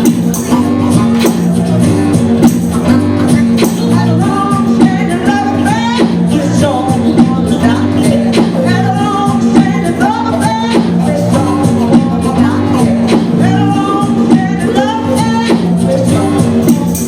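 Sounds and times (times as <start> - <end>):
live band playing: 0.0 - 17.0
regular drum beat: 0.0 - 17.0
lead singer singing: 2.8 - 17.0.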